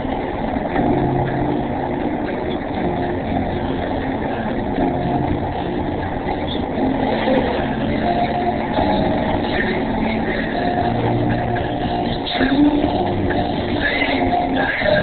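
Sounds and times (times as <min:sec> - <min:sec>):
humming tones: 0:00.0 - 0:15.0
vehicle engine running: 0:00.0 - 0:15.0.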